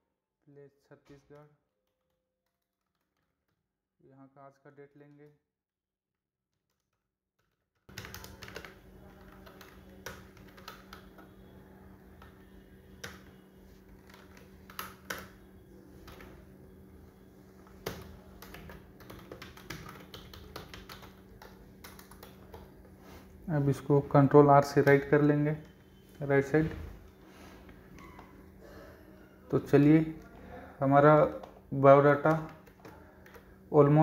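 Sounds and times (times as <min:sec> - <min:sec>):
computer keyboard typing: 0:01.3 - 0:03.3, 0:07.4 - 0:23.0, 0:23.7 - 0:34.0.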